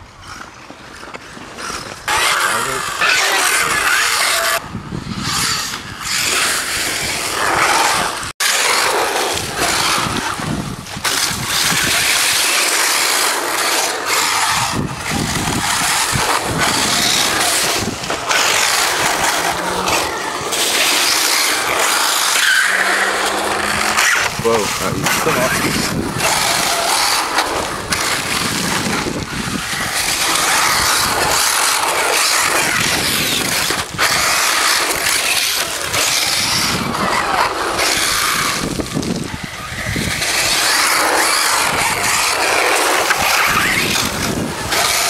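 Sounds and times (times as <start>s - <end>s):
rc car tyres spraying grit: 1.6s - 45.0s.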